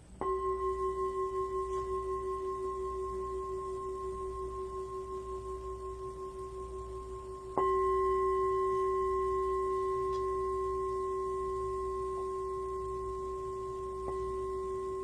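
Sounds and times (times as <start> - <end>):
meditation bell ringing: 0.0 - 15.0.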